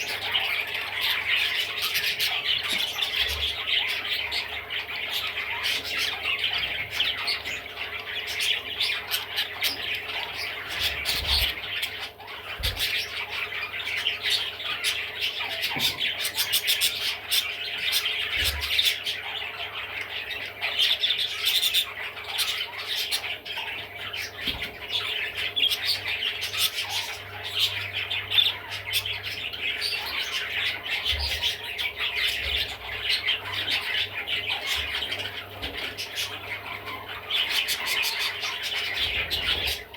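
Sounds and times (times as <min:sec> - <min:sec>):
budgerigar chattering: 0:00.0 - 0:39.9.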